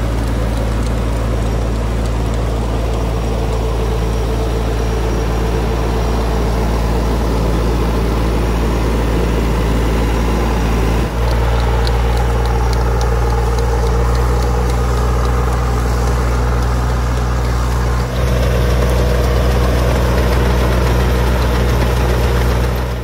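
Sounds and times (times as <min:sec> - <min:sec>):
rotary tiller churning soil: 0:00.0 - 0:23.0
tractor diesel engine under load: 0:00.0 - 0:23.0.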